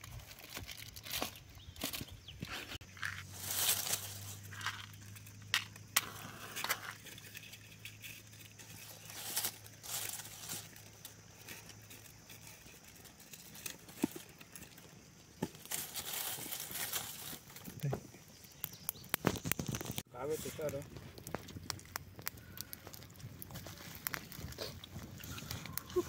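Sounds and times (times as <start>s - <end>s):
dry leaves and twigs rustling: 0.0s - 26.0s
twigs snapping: 0.2s - 26.0s.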